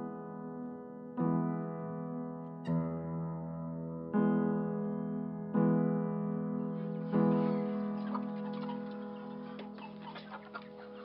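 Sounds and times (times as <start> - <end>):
soft piano chord ringing: 0.0 - 11.0.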